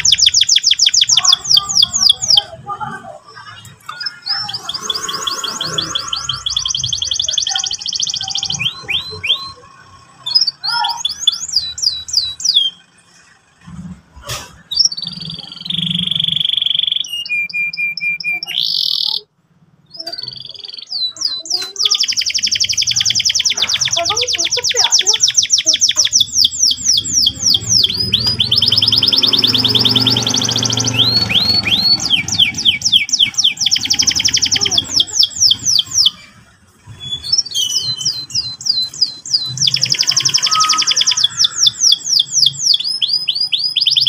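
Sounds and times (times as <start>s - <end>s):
canary singing: 0.0s - 44.0s.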